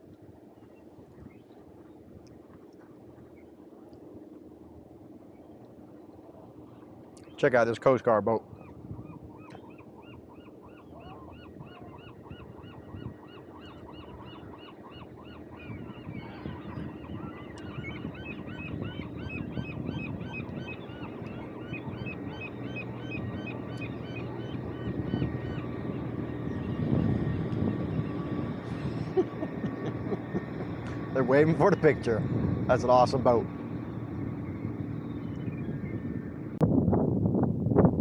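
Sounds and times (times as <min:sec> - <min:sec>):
boat engine rumbling: 0:00.0 - 0:38.0.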